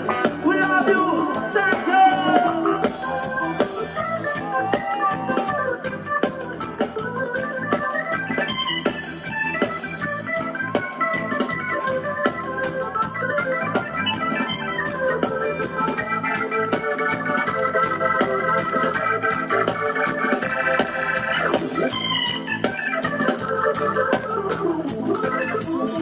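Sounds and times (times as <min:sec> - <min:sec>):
organ chords: 0:00.0 - 0:26.0.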